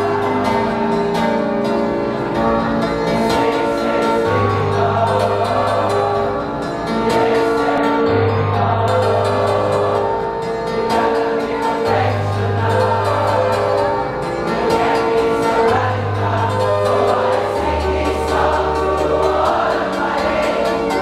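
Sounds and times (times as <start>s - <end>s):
group of voices singing: 3.0s - 21.0s.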